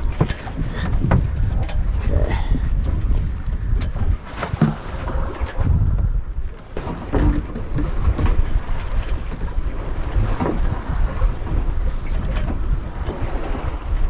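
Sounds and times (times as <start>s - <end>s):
waves against hull: 0.0s - 14.0s
wind buffeting microphone: 0.0s - 14.0s.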